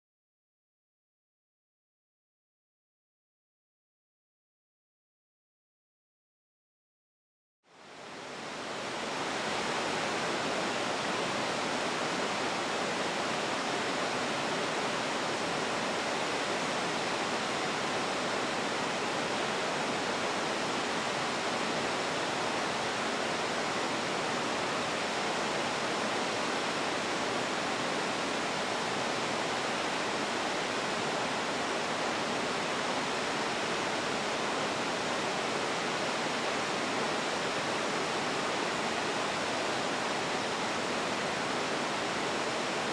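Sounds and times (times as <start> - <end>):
waterfall rushing: 7.8 - 42.9.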